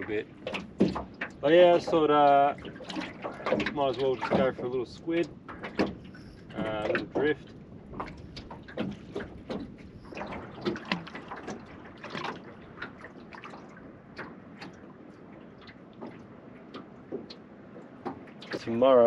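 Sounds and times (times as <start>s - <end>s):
waves slapping against boat hull: 0.0s - 19.0s.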